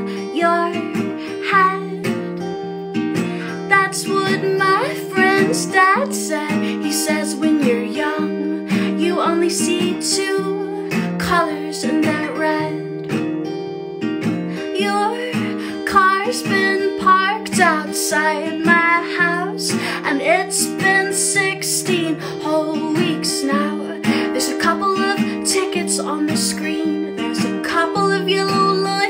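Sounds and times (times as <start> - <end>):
woman singing: 0.0 - 13.1, 14.5 - 29.0
acoustic guitar strumming: 0.0 - 29.0.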